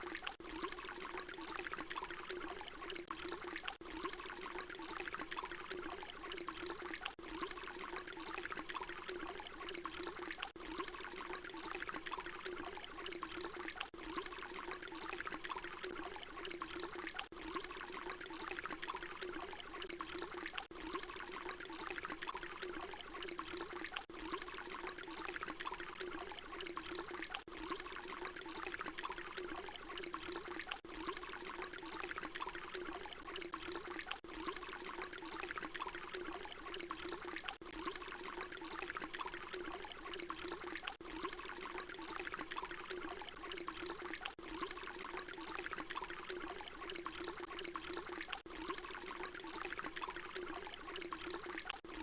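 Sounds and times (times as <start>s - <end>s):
water pouring: 0.0s - 52.0s.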